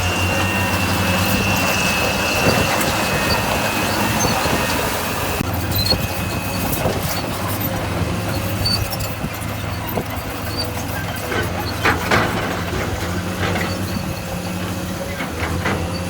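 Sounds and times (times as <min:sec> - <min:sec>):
heavy machinery diesel engine: 0:00.0 - 0:16.0
high squeal: 0:00.0 - 0:16.0.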